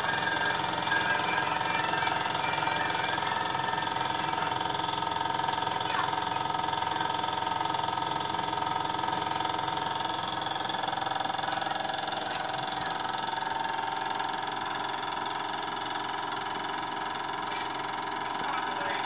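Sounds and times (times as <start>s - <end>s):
film projector whirring and clattering: 0.0s - 19.0s.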